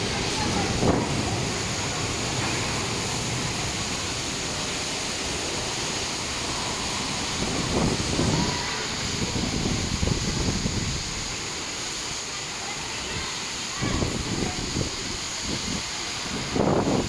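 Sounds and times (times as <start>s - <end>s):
strong wind rushing: 0.0s - 11.5s, 13.1s - 17.0s
driving rain: 0.0s - 17.0s.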